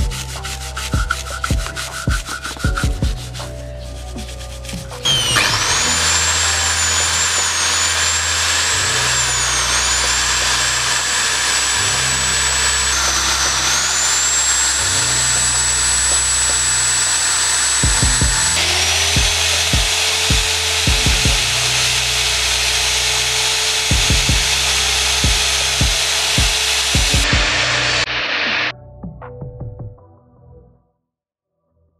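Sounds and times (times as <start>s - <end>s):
bench wheel low hum: 0.0s - 28.7s
rotary tool wire brush whine: 0.0s - 28.7s.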